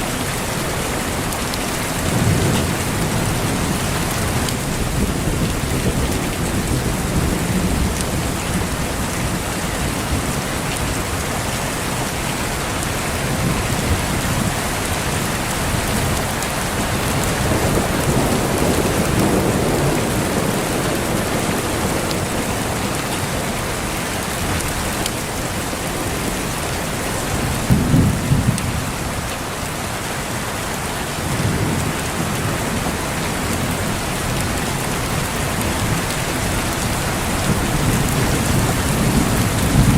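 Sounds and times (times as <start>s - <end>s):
heavy rain: 0.0s - 39.9s
thunder rumbling and cracking: 0.2s - 11.6s, 12.8s - 29.7s, 31.0s - 39.9s.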